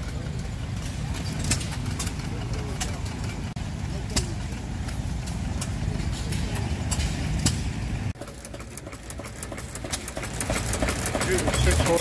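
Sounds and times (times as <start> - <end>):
stationary gas engines running: 0.0 - 12.0.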